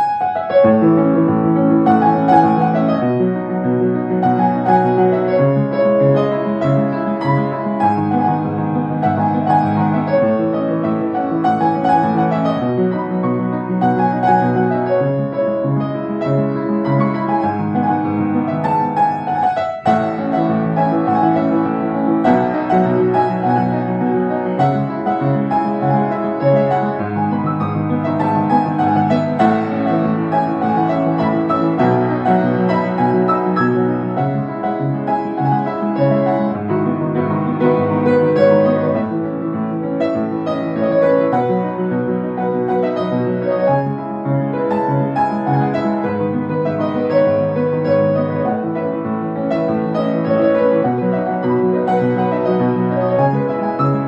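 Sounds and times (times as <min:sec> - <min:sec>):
piano-led instrumental music: 0:00.0 - 0:54.0.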